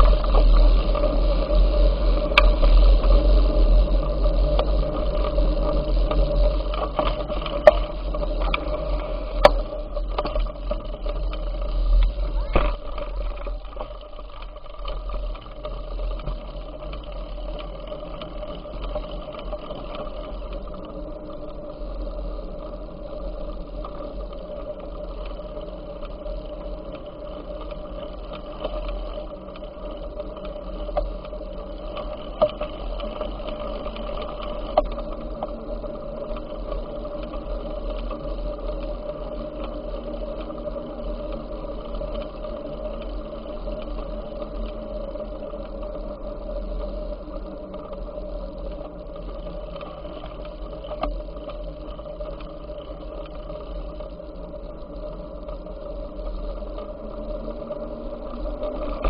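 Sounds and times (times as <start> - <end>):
bicycle running hum: 0.0 - 59.0.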